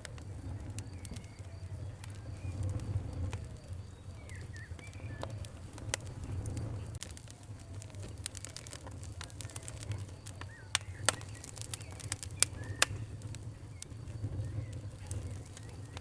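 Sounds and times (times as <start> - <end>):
fire crackling and popping: 0.0 - 16.0
bird chirping: 0.4 - 7.2, 9.3 - 16.0.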